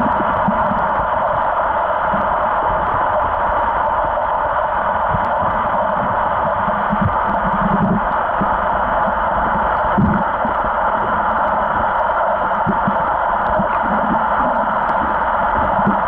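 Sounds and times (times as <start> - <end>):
muffled underwater hiss: 0.0 - 16.0.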